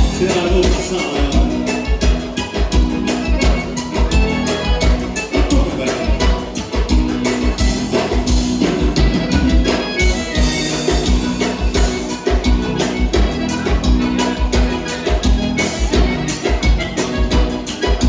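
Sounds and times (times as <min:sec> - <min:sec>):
accordion-led band playing: 0:00.0 - 0:18.0
bass: 0:00.0 - 0:18.0
drums on a steady beat: 0:00.0 - 0:18.0.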